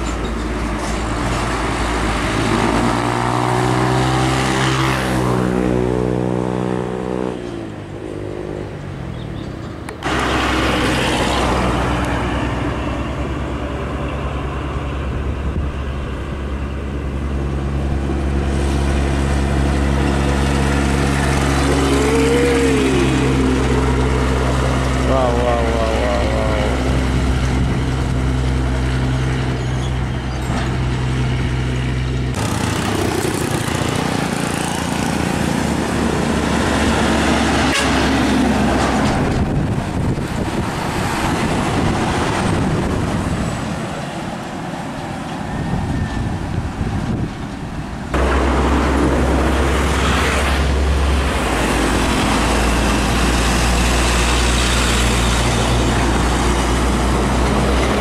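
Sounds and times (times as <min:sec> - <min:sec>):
diesel trucks passing: 0:00.0 - 0:58.0
tyre and road noise: 0:00.0 - 0:58.0.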